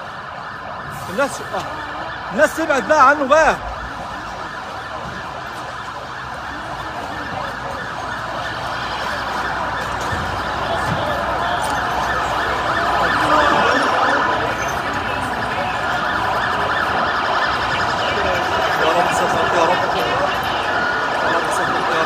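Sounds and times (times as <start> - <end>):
fire engine siren wailing: 0.0 - 22.0.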